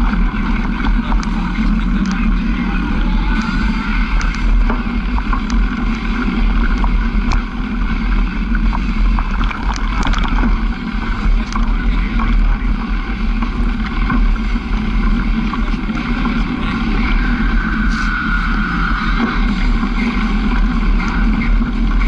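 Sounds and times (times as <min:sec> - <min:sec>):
vehicle engine running: 0:00.0 - 0:22.0
wind buffeting microphone: 0:00.0 - 0:22.0.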